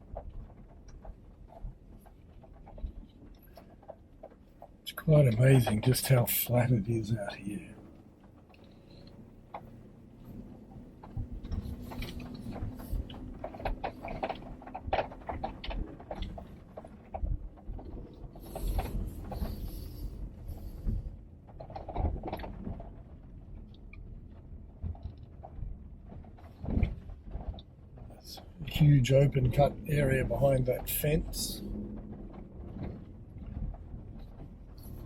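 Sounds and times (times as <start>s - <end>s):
car engine hum: 0.0s - 35.0s
car rattles over bumps: 0.0s - 35.0s.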